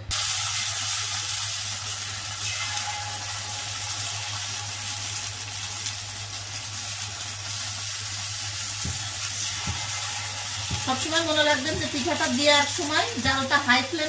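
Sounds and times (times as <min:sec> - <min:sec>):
batter sizzling in hot mould: 0:00.0 - 0:14.0.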